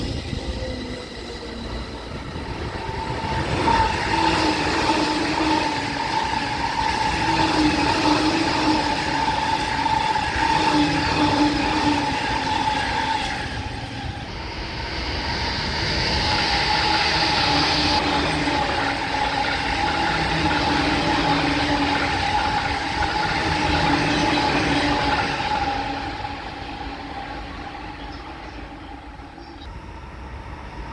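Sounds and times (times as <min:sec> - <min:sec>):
electric train running on tracks: 0:00.0 - 0:30.9.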